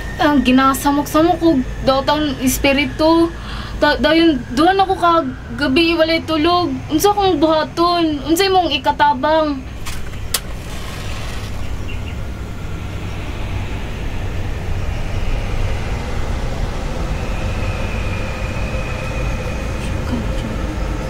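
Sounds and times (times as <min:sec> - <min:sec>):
low rumbling drone: 0:00.0 - 0:21.0.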